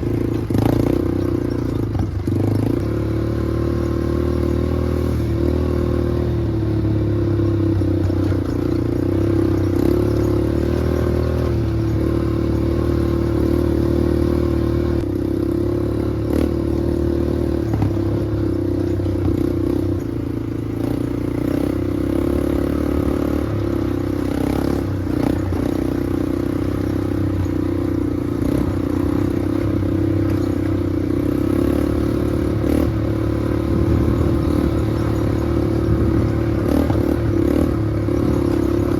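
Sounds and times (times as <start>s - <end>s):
off-road vehicle engine running: 0.0s - 38.9s.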